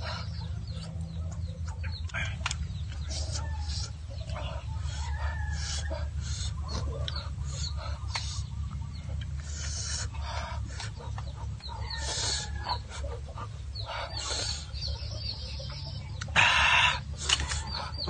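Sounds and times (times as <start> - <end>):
sucking and chewing snails: 0.0 - 15.0
chickens clucking: 0.0 - 18.0.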